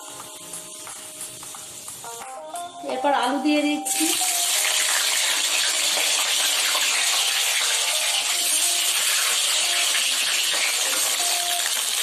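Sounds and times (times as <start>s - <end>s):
potatoes sizzling in oil: 0.0s - 2.2s, 3.9s - 12.0s.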